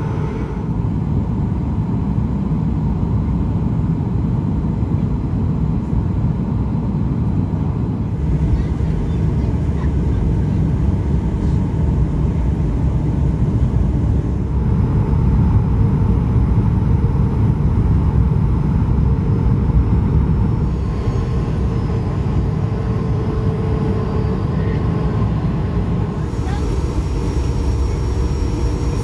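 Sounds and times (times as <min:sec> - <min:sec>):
airliner cabin engine rumble: 0:00.0 - 0:29.0.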